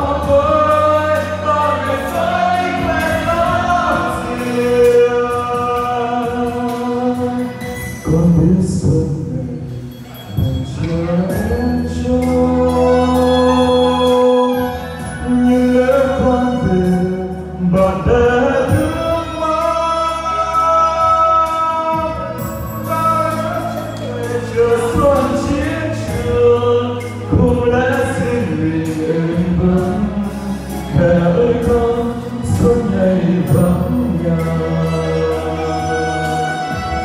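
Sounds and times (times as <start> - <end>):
instrumental accompaniment: 0.0 - 37.0
man singing into a microphone: 0.0 - 37.0.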